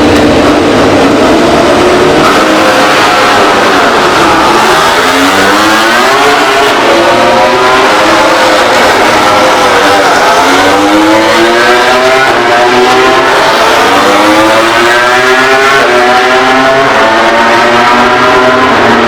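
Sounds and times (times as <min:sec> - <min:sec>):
racing motorcycle engines revving: 0:00.0 - 0:19.0.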